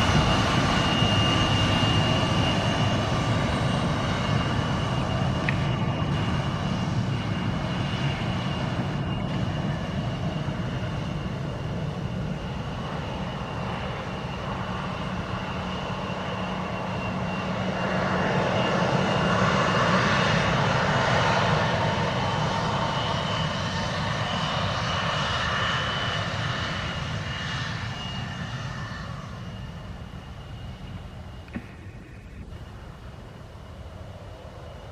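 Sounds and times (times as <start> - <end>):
aircraft engines droning: 0.0 - 34.9.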